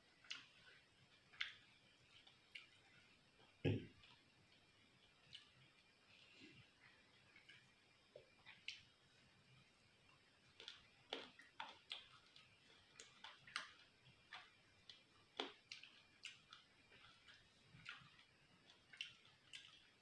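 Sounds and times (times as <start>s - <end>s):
person chewing with soft crunches: 0.0s - 20.0s.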